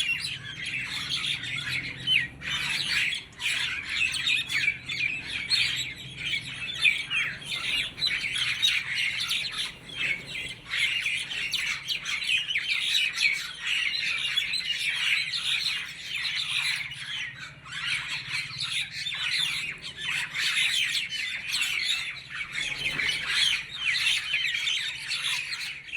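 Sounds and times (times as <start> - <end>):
flock of birds chirping: 0.0 - 25.9.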